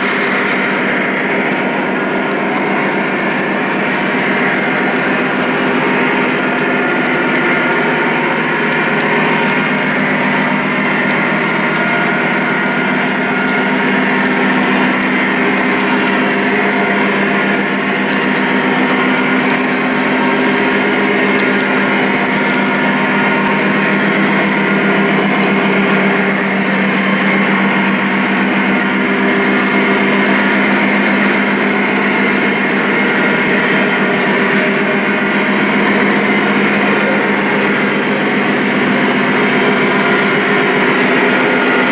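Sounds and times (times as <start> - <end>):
metal wheels rumbling on track: 0.0 - 41.9
toy train engine drone: 0.0 - 41.9.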